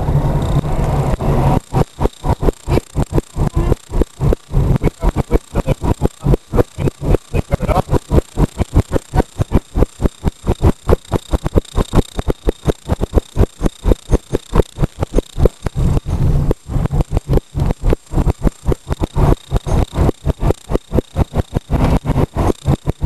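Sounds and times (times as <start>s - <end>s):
rapid loud clicking: 0.0s - 23.0s.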